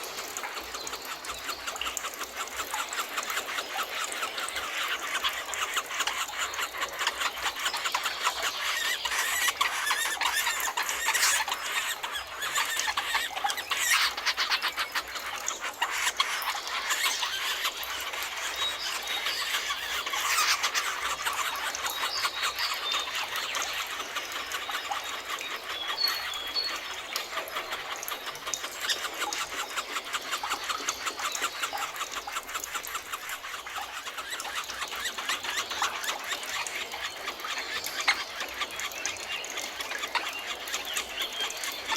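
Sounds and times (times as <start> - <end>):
birds chirping and chattering: 0.0 - 41.9.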